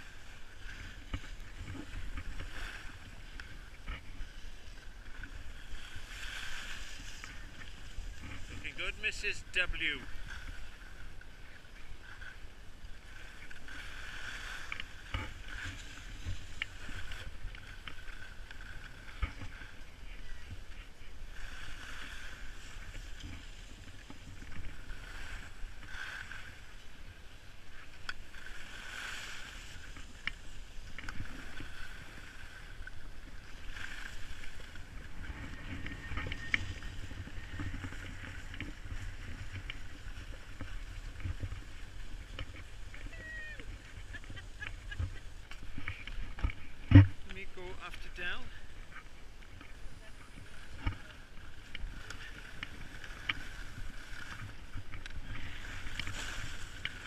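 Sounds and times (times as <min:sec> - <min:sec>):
skis scraping over snow: 0:00.0 - 0:57.0.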